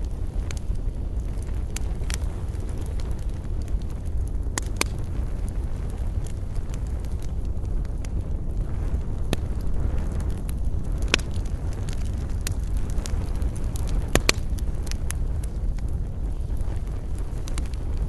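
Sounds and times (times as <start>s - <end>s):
low rumble: 0.0s - 18.0s
wood fire crackling: 0.0s - 18.0s.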